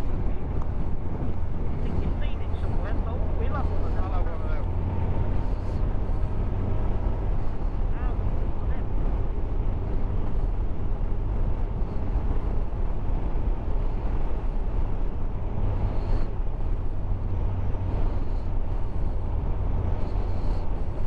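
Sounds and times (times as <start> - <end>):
wind rush: 0.0 - 21.0.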